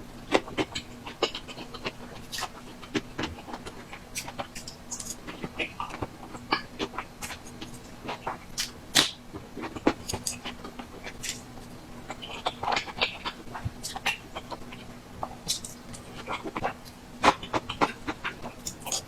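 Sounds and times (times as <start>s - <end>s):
person chewing and lip-smacking: 0.3s - 11.5s, 12.1s - 19.0s.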